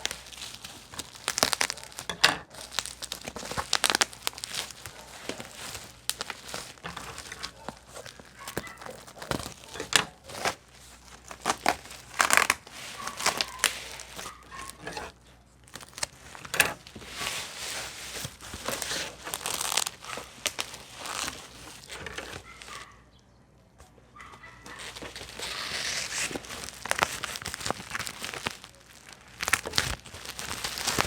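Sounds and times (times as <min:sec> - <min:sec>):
packaging crinkling and rustling: 0:00.0 - 0:23.0, 0:24.2 - 0:31.0.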